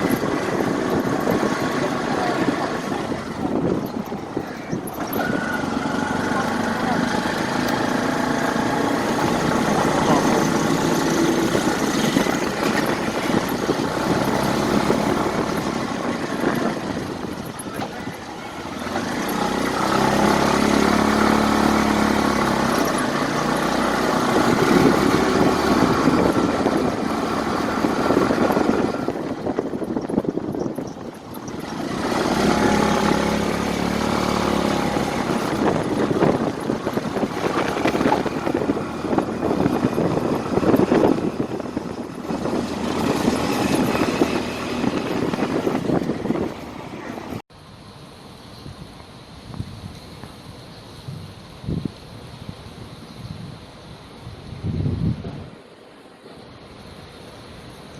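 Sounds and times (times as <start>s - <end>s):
passing vehicle engines: 0.0s - 57.9s.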